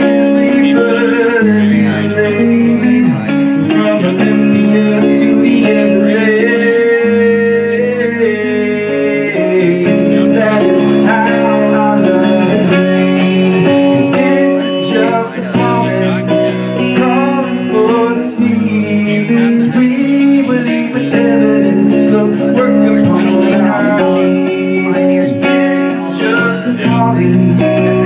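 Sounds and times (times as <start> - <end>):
guitar: 0.0 - 28.0
live band music: 0.0 - 28.0.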